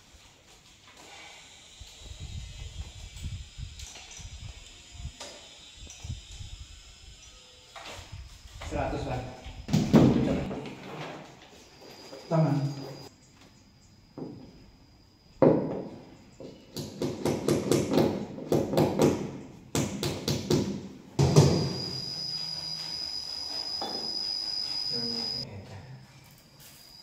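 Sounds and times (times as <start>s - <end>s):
high-pitched cricket-like trill: 1.0s - 17.9s, 21.2s - 27.0s.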